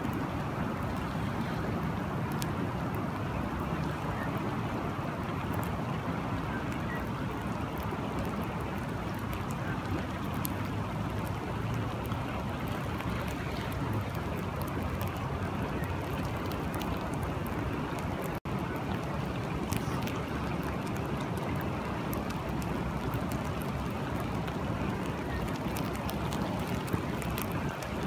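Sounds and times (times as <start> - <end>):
raindrops ticking: 0.0 - 28.0
river water rushing: 0.0 - 28.0.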